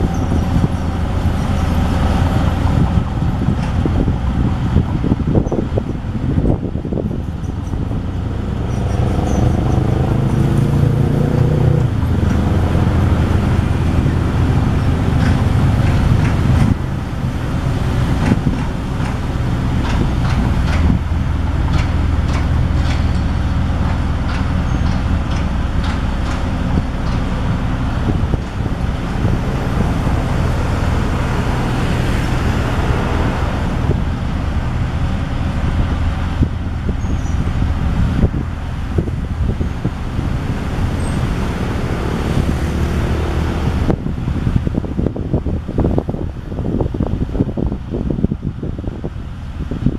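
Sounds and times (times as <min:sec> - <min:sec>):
soil compactor diesel engine: 0:00.0 - 0:46.5.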